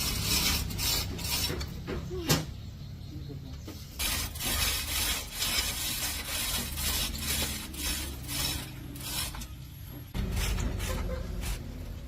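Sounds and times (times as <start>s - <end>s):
rasping strokes on metal: 0.0s - 1.9s, 4.0s - 12.0s.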